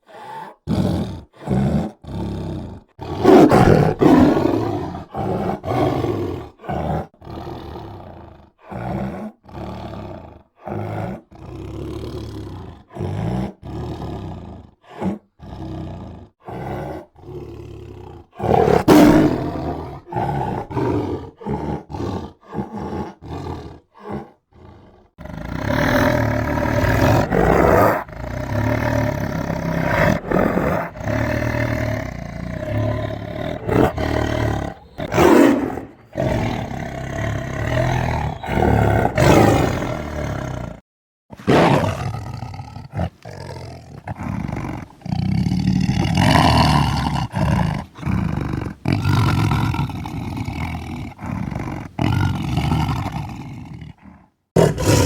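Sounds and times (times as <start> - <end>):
tiger roaring: 0.0 - 55.0.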